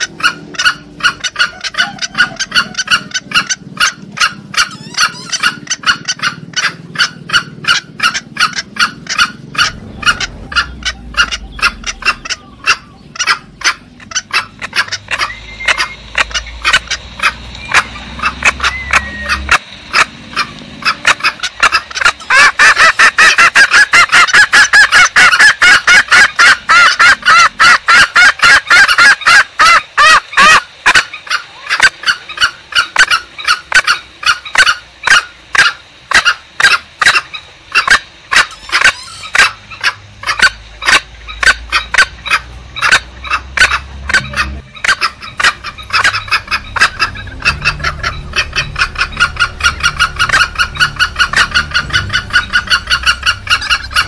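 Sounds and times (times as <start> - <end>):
junglefowl short sharp calls: 0.0 - 54.0.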